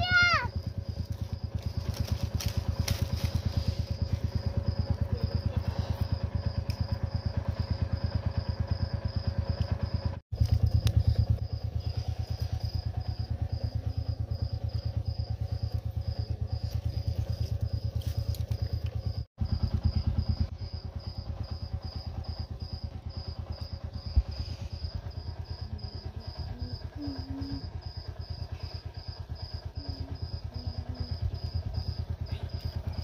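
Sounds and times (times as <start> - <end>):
engine running with thudding beat: 0.0 - 33.0.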